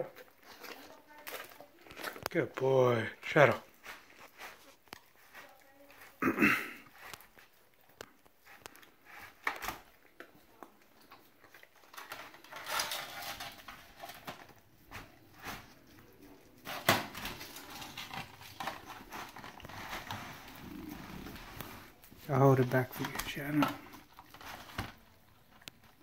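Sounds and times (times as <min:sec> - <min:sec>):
dog chewing licking and tearing: 0:00.0 - 0:02.7, 0:03.4 - 0:06.2, 0:06.9 - 0:26.0.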